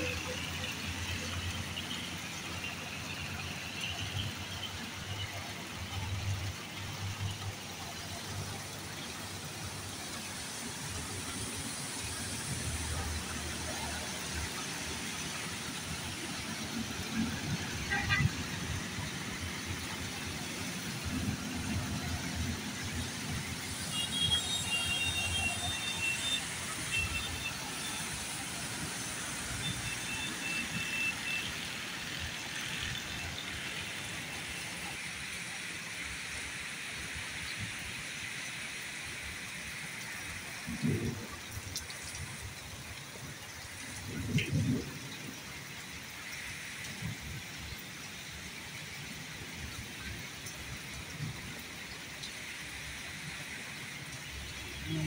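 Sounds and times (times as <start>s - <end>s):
vehicles passing on wet road: 0.0s - 55.0s.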